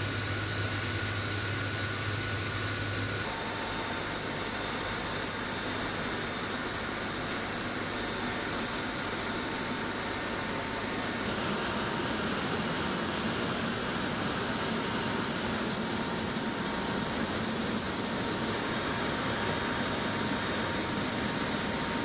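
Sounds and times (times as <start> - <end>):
aircraft engine drone: 0.0 - 22.0.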